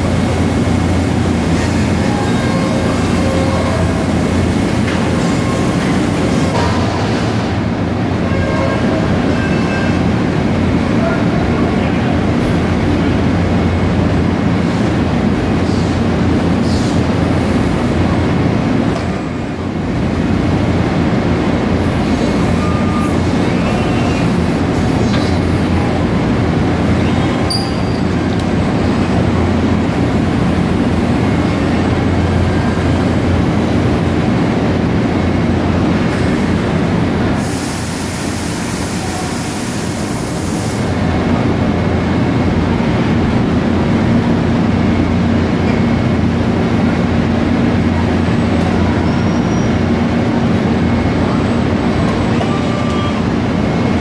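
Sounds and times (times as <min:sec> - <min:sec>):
factory machinery rumble: 0:00.0 - 0:54.0.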